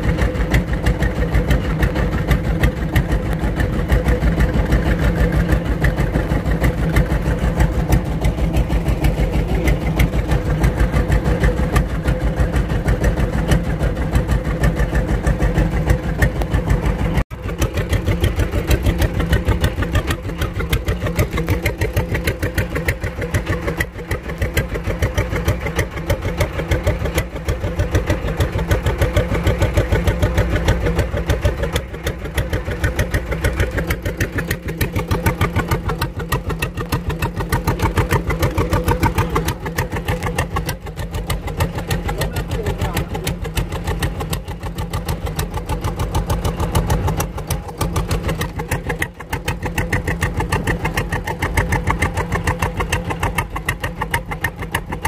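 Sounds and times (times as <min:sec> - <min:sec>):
boat engine chugging: 0:00.0 - 0:55.0.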